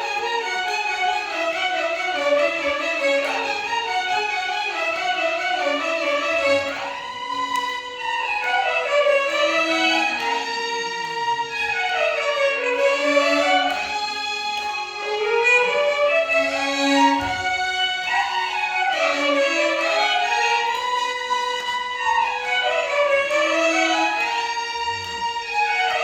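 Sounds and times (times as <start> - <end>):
violin orchestra playing: 0.0 - 26.0.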